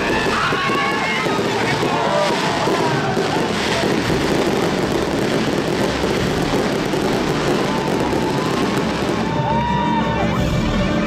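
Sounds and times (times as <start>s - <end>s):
fireworks crackling and rumbling: 0.0s - 9.9s.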